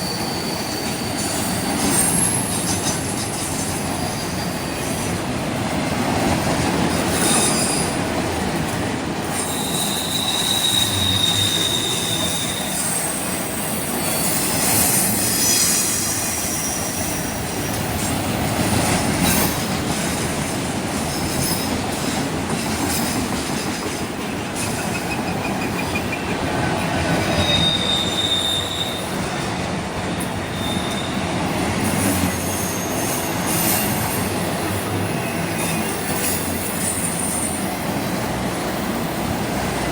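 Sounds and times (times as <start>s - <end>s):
train rolling past: 0.0s - 39.9s
wheels squealing on rails: 0.0s - 39.9s.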